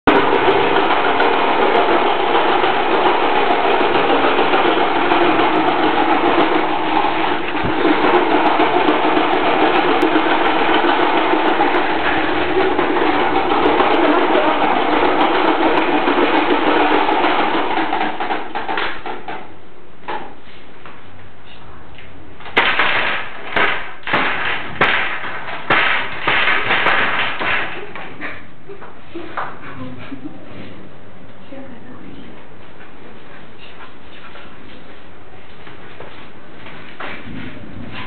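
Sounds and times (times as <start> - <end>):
electric fan whirring: 0.0 - 38.0.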